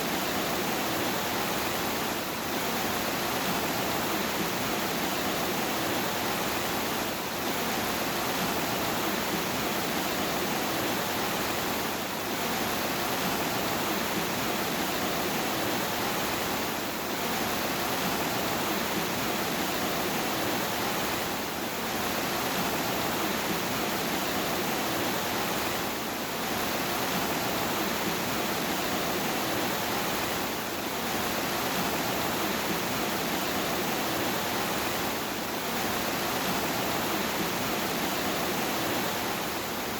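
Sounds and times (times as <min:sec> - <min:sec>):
dense hiss of rain: 0:00.0 - 0:39.9.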